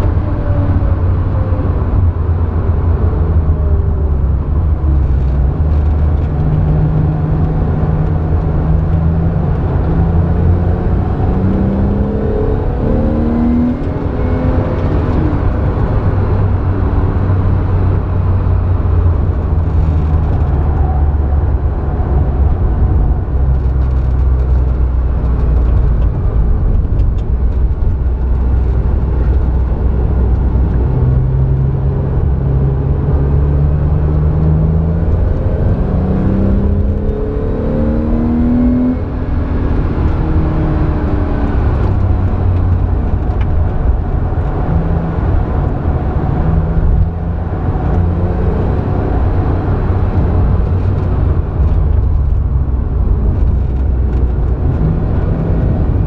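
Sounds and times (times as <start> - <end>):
racing car engine from inside: 0.0 - 56.0.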